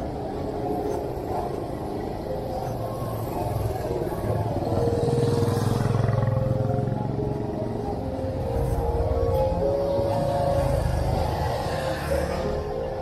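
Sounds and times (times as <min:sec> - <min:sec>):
motorbike engines passing: 0:00.0 - 0:13.0.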